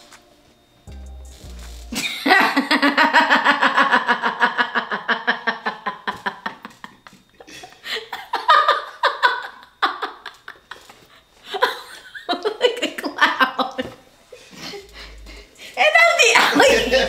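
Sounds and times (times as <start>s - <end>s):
woman laughing hard: 2.0s - 15.2s, 16.2s - 17.0s.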